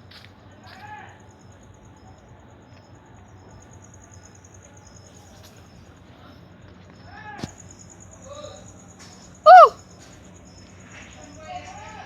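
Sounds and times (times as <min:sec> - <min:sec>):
insects trilling: 0:00.0 - 0:12.0
lower insect call pulsing: 0:00.0 - 0:12.0.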